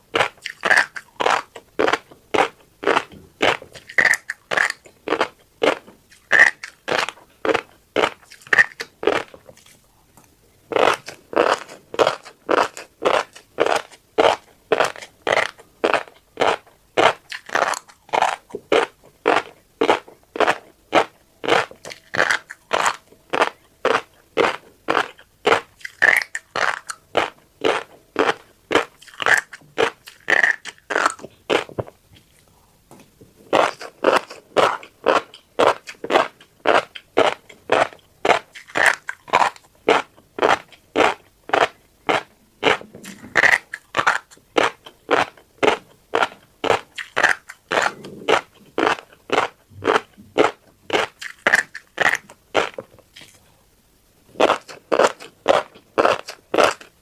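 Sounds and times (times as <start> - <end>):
crunchy chewing of seeds: 0.0 - 57.0.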